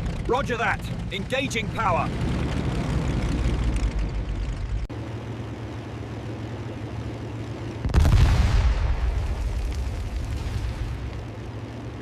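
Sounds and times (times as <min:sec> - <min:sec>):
propeller aircraft engine running: 0:00.0 - 0:12.0.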